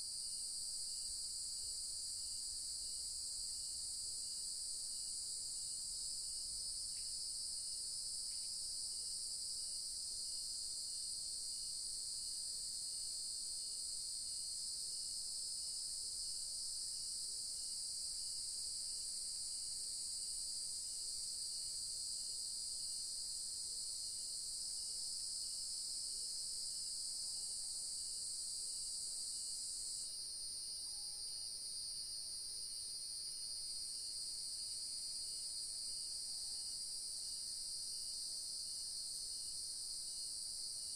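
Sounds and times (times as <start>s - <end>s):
faint insect chirping: 0.0s - 40.9s.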